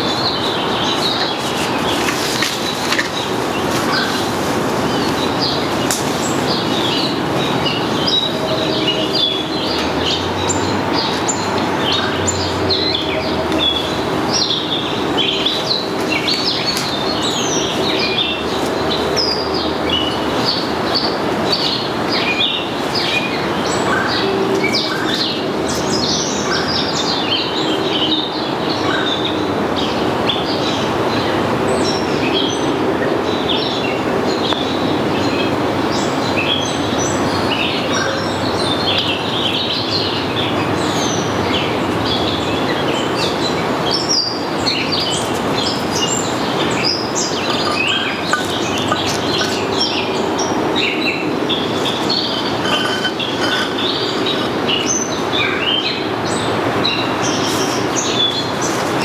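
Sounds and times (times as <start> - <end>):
songbirds chirping: 0.0 - 59.0
steady rushing background noise: 0.0 - 59.0.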